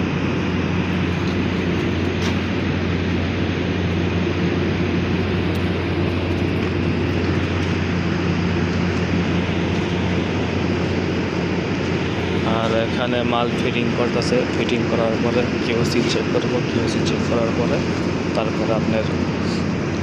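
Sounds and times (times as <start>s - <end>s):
workshop machinery drone: 0.0s - 20.0s.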